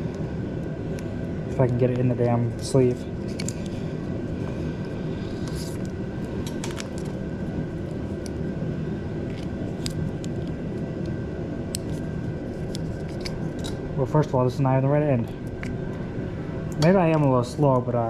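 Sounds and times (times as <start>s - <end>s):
space heater fan drone: 0.0s - 18.0s.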